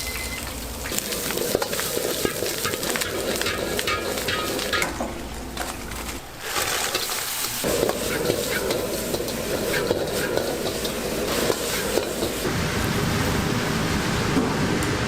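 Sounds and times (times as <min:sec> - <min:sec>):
food sizzling in hot oil: 0:00.0 - 0:04.8, 0:06.4 - 0:14.3.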